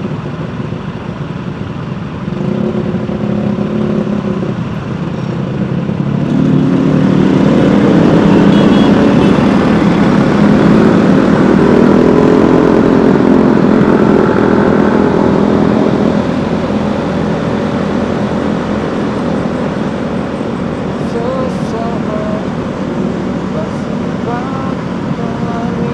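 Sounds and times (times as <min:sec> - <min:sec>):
road noise: 0:00.0 - 0:25.9
vehicle engine running: 0:00.0 - 0:25.9.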